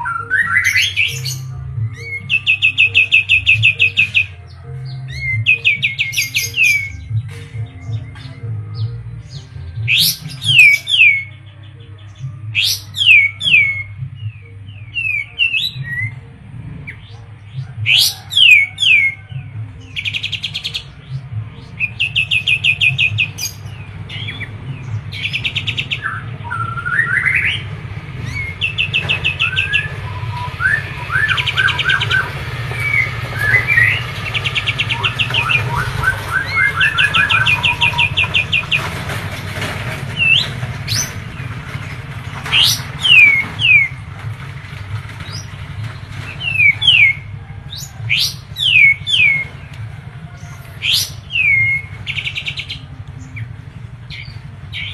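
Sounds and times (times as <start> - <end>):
bird singing: 0.0 - 54.9.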